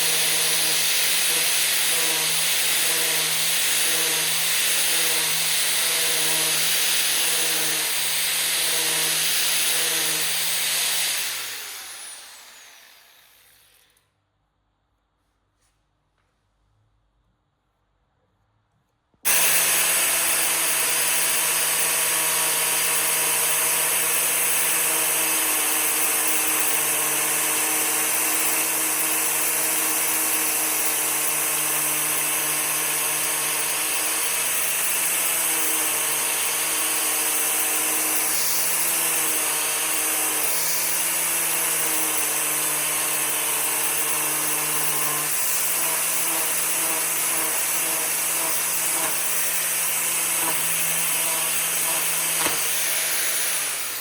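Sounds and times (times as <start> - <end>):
electric power tool motor hum: 0.0 - 14.1, 19.3 - 54.0.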